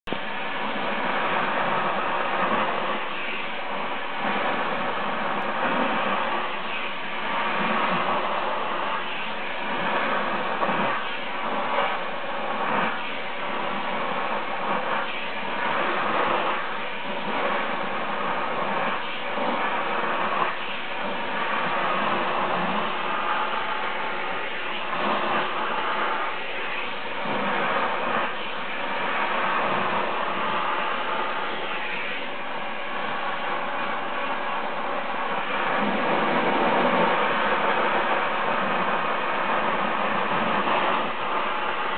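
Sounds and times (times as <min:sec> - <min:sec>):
vacuum cleaner running: 0:00.1 - 0:41.9.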